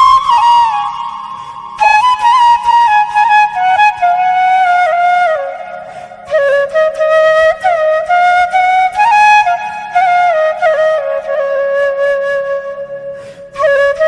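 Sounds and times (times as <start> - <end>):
flute melody: 0.0 - 14.0.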